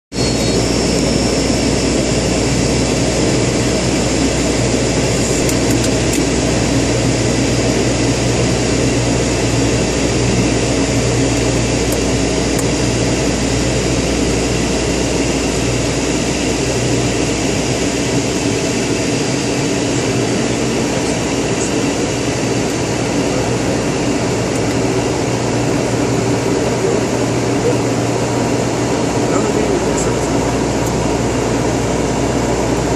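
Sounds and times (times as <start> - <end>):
turboprop engines droning: 0.1 - 32.9.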